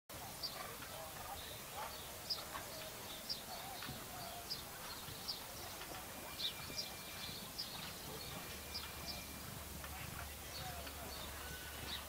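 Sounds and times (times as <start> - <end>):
faint distant voices: 0.1 - 12.0
small birds chirping: 0.2 - 12.0.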